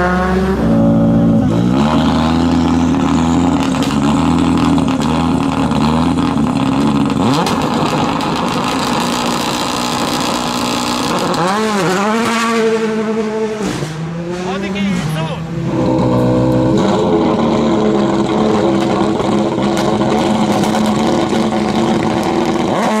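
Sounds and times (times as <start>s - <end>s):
car accelerating away: 0.0s - 23.0s
engine blipped: 0.0s - 23.0s
rally car engine revving: 0.0s - 23.0s.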